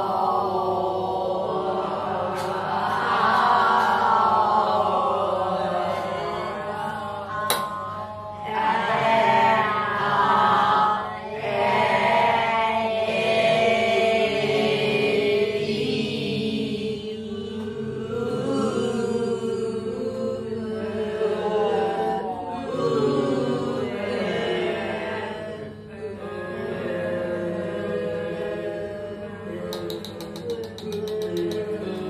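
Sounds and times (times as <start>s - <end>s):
voices chanting vowel sounds: 0.0s - 32.0s.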